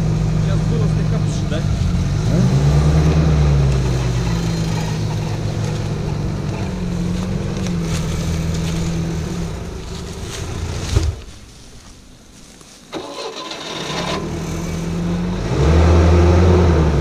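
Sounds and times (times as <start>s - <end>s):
off-road vehicle engine running: 0.0s - 12.2s, 12.9s - 17.0s.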